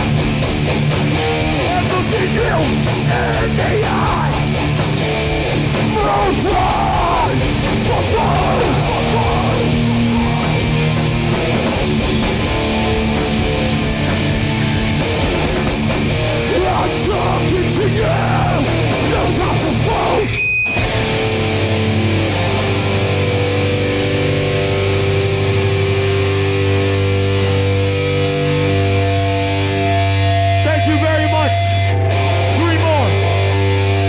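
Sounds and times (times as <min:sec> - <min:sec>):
long low guitar and bass notes: 0:00.0 - 0:34.0
punk band playing live: 0:00.0 - 0:34.0.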